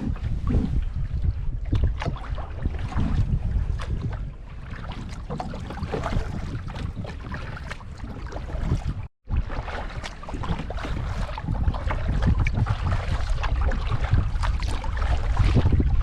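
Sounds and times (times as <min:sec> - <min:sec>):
paddle splashing water: 0:00.0 - 0:16.0
wind buffeting microphone: 0:00.0 - 0:16.0.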